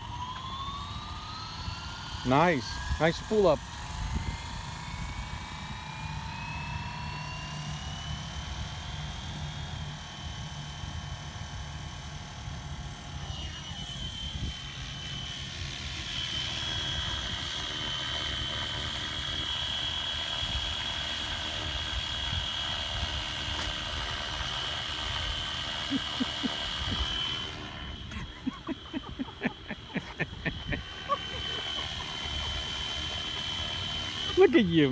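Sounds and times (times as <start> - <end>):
rc helicopter rotor whining: 0.0 - 34.9.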